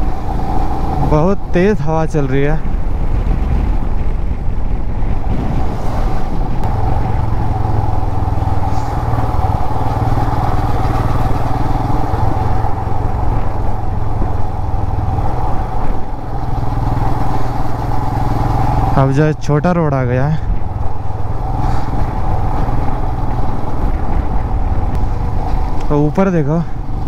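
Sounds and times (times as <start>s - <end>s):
motorcycle engine running: 0.0s - 27.0s
wind rumbling on microphone: 0.0s - 27.0s.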